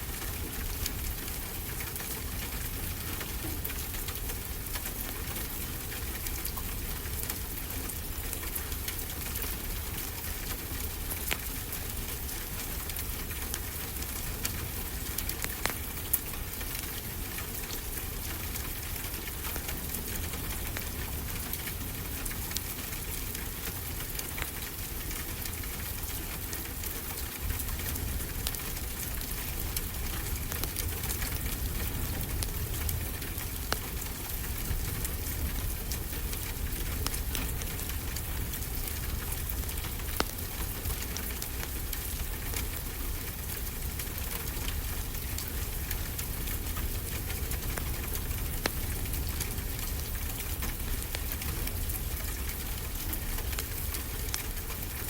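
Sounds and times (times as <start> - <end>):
steady rain falling: 0.0 - 55.0
wood fire crackling: 0.1 - 55.0.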